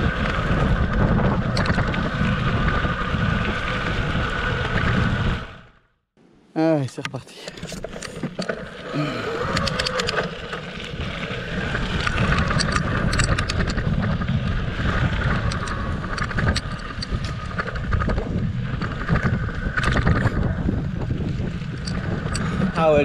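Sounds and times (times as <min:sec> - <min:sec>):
bike clicks and rattles: 0:00.0 - 0:05.5, 0:07.4 - 0:23.0
wind buffeting microphone: 0:00.0 - 0:05.6, 0:09.2 - 0:23.0
tyres rumbling over dirt: 0:00.0 - 0:05.7, 0:07.6 - 0:23.0.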